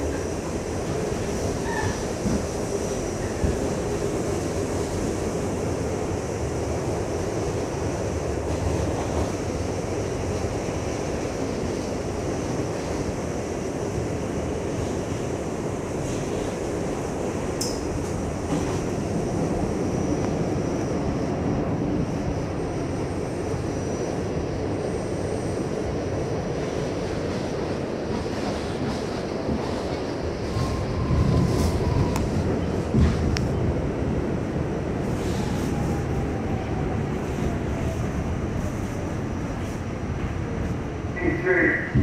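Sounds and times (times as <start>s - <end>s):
subway train wheels on rail: 0.0s - 42.0s.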